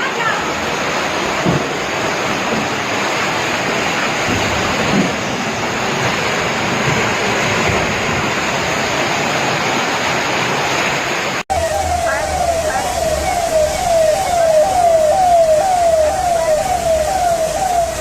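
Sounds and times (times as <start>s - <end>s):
flowing floodwater: 0.0s - 18.0s
heavy rain: 0.0s - 18.0s.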